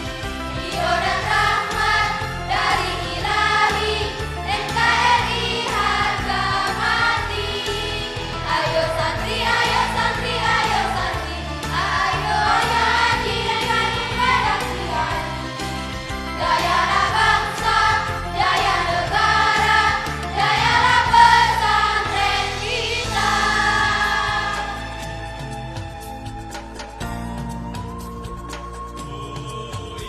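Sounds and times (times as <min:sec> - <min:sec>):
choir singing: 0:00.0 - 0:25.5, 0:28.9 - 0:30.0
instrumental accompaniment: 0:00.0 - 0:30.0.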